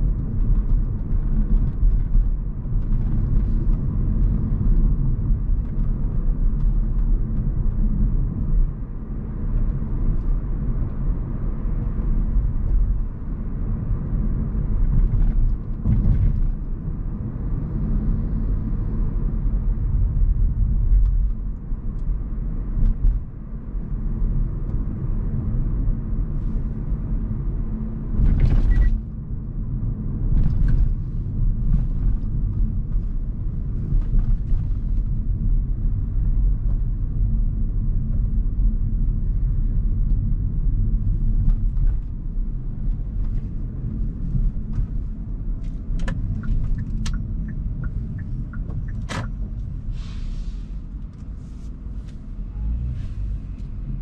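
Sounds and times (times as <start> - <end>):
tyre and road rumble: 0.0 - 54.0.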